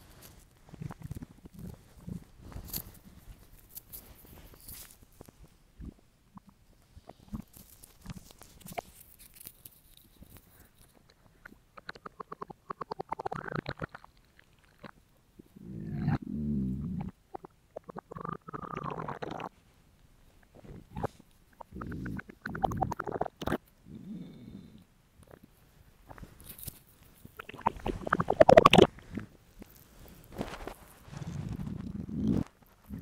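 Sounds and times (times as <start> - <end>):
stomach growling and gurgling: 0.0 - 4.6, 5.2 - 9.0, 10.2 - 19.6, 20.4 - 26.4, 27.2 - 33.0.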